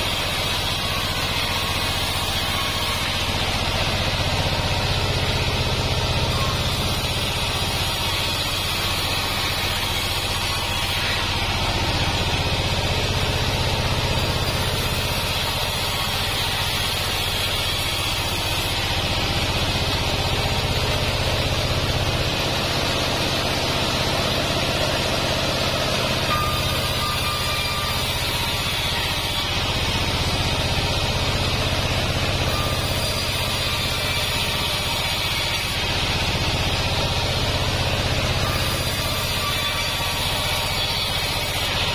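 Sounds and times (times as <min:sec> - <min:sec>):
band saw cutting log: 0:00.0 - 0:41.9
low machine drone: 0:00.0 - 0:41.9.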